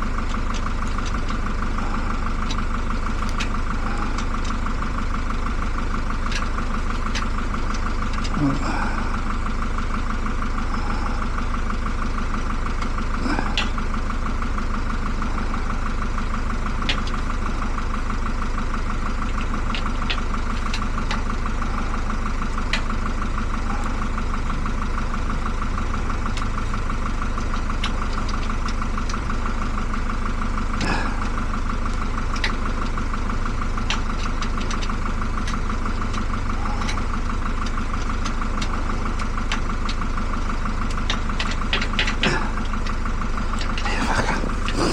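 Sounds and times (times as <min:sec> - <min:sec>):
motor running steadily: 0:00.0 - 0:44.9.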